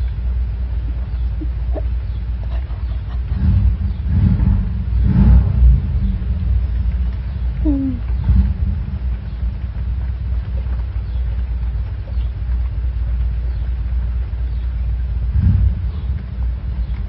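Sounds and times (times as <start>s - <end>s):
fan air rumbling on microphone: 0.0s - 17.0s.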